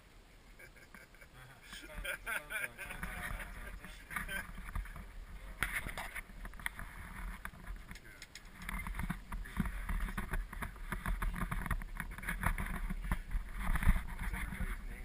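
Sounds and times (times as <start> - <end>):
gondola cabin rumble: 1.6 - 15.0.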